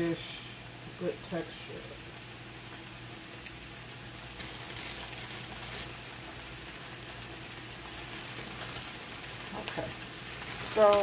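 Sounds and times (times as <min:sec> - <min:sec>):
food sizzling in hot pan: 0:00.0 - 0:11.0.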